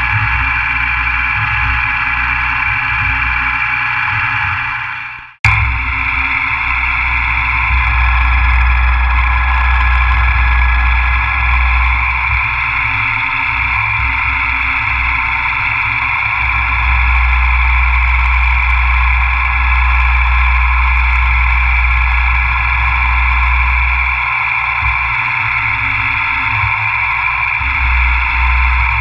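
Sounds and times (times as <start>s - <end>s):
low machine hum: 0.0s - 29.0s
milling machine spindle whine: 0.0s - 29.0s.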